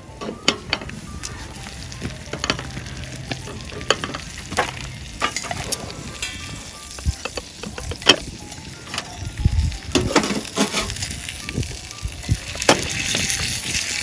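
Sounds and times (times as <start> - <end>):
meat sizzling: 0.0 - 14.0.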